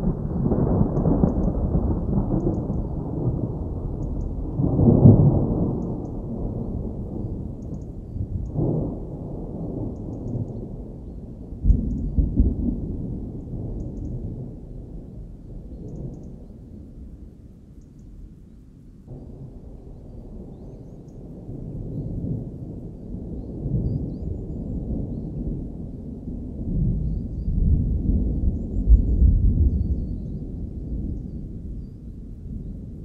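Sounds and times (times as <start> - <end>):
thunderclap: 0.0 - 15.2, 21.2 - 33.0
low rumble of thunder: 0.0 - 33.0.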